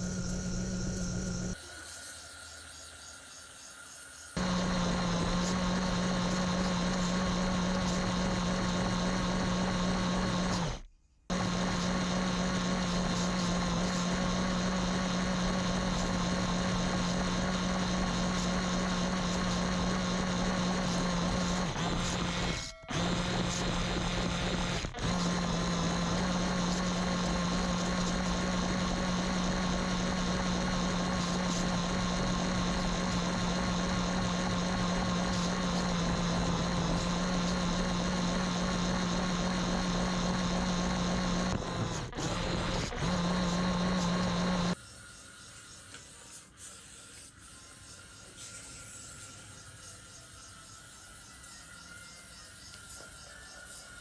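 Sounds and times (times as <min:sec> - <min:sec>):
small electric motor buzzing whine: 0:00.0 - 0:54.0.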